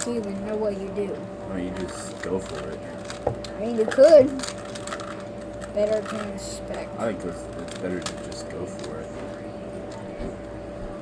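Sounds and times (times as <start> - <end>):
steady high hum: 0.0 - 11.0.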